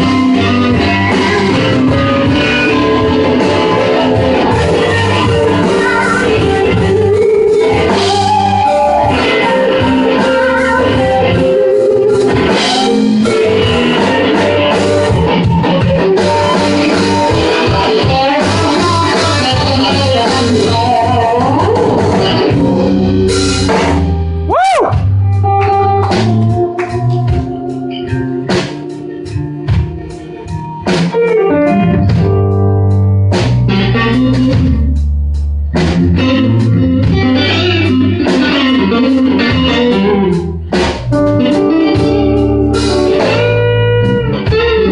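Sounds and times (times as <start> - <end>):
bass: 0.0 - 44.9
drum kit: 0.0 - 44.9
electric guitar: 0.0 - 44.9.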